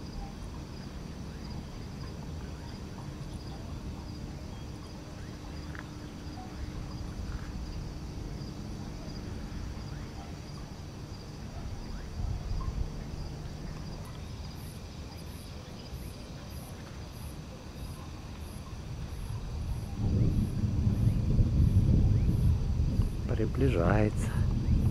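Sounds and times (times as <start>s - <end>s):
low steady rumble: 0.0s - 16.5s, 17.8s - 24.9s
insects trilling: 0.0s - 24.9s
rhythmic high insect chirps: 0.0s - 24.9s.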